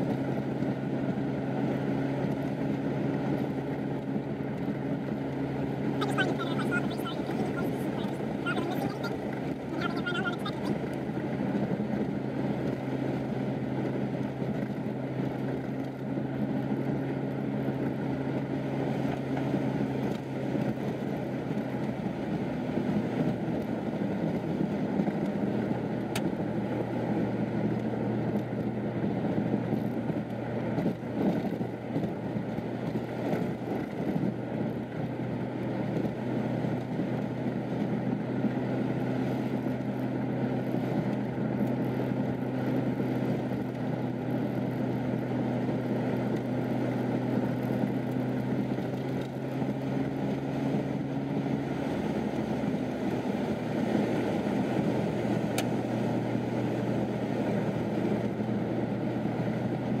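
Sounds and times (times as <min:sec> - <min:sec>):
low engine hum: 0:00.0 - 1:00.0
road noise inside vehicle: 0:00.0 - 1:00.0.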